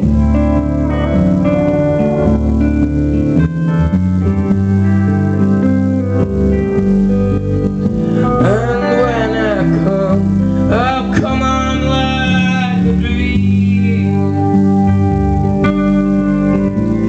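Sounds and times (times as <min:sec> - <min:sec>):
live band playing country song: 0:00.0 - 0:17.0.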